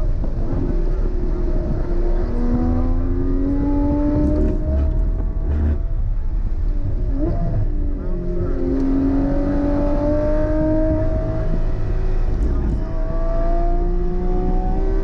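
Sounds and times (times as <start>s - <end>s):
sports car engine running hard: 0.0s - 15.0s.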